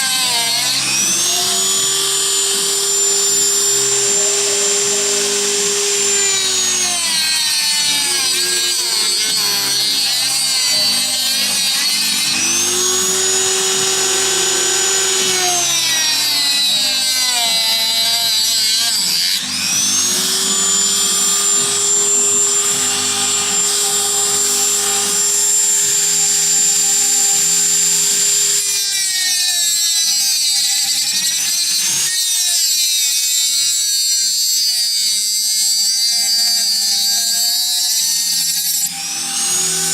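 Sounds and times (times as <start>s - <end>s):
power cutting tool whining: 0.0s - 39.9s.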